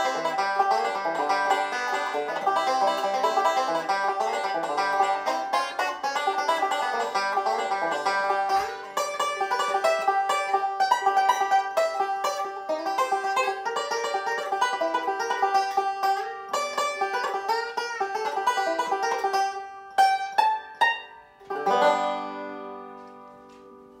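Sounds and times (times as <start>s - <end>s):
banjo picking: 0.0s - 24.0s.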